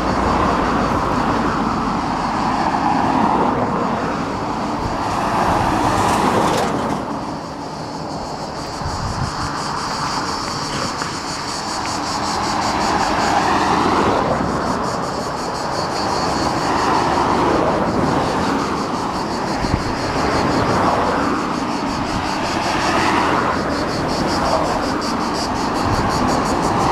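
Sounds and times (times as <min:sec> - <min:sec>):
road traffic passing: 0:00.0 - 0:26.9.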